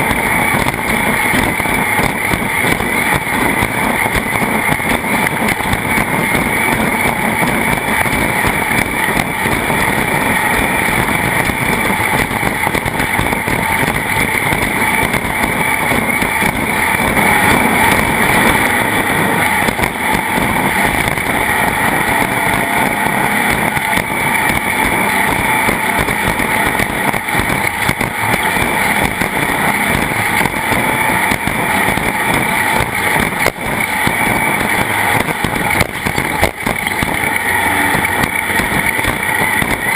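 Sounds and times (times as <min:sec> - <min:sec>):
boat rushing noise: 0:00.0 - 0:39.9.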